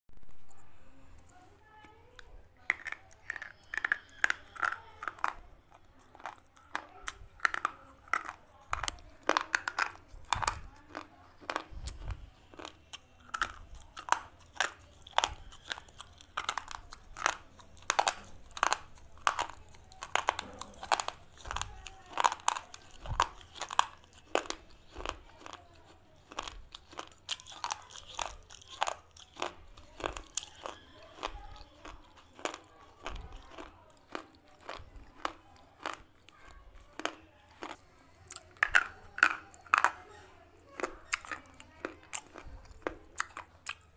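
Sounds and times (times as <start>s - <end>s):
pencil being chewed crunching: 2.2s - 43.9s.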